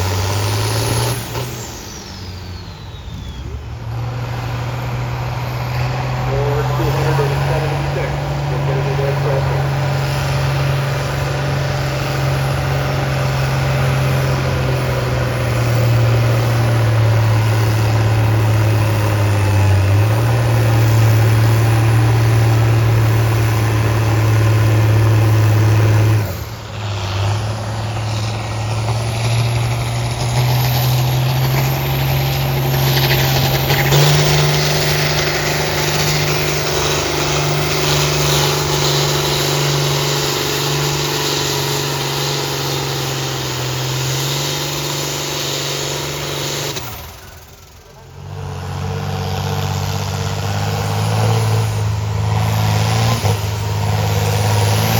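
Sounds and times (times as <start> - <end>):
tractor engine lugging under load: 0.0 - 54.9.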